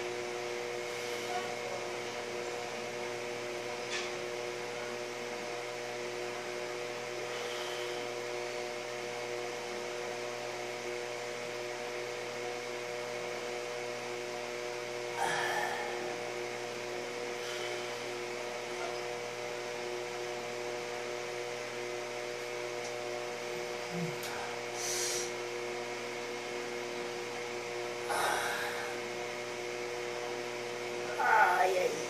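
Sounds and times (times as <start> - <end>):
room hum: 0.0 - 32.0.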